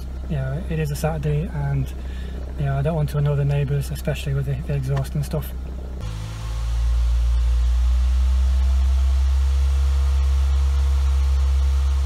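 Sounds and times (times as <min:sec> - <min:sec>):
car engine running at raised revs: 0:00.0 - 0:12.0.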